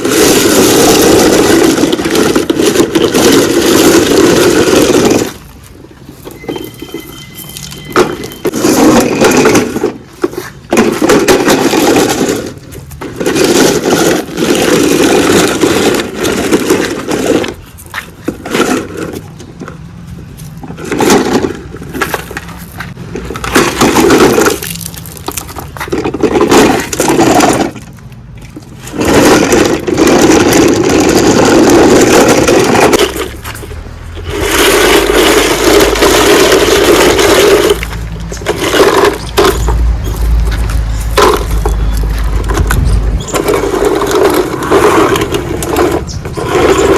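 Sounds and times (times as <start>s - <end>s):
toy digger scraping in sand: 0.0s - 46.9s.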